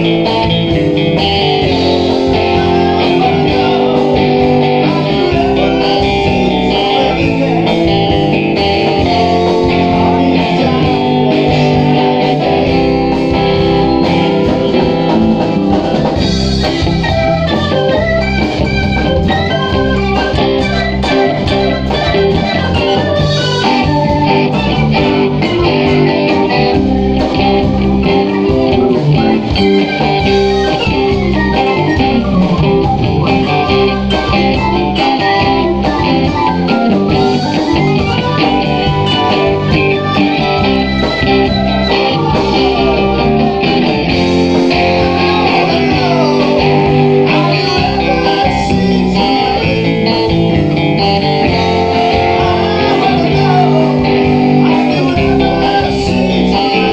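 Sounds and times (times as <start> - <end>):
drums: 0.0 - 56.9
electric guitar lead: 0.0 - 56.9
keyboard: 0.0 - 56.9.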